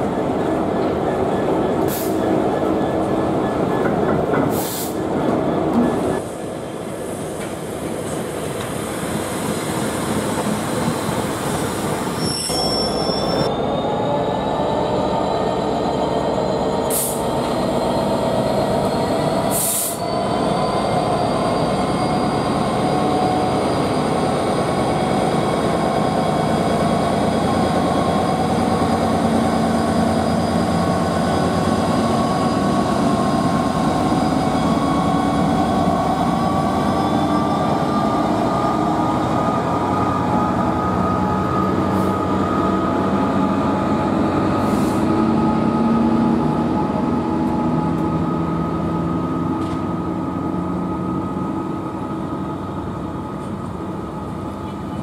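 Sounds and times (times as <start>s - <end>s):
diesel locomotive engine running: 0.0s - 55.0s
rumble of wheels on rail: 0.0s - 55.0s.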